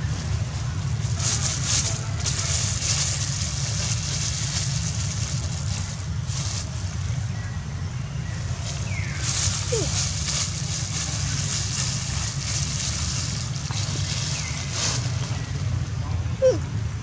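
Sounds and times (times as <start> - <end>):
high hiss: 0.0 - 16.0.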